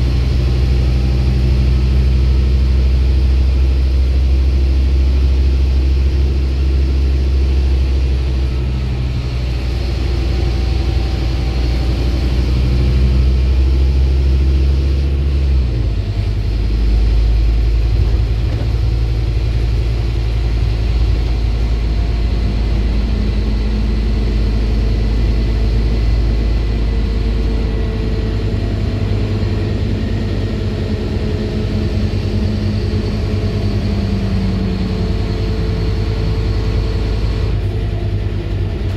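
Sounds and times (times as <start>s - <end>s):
bus engine from inside: 0.0s - 38.9s.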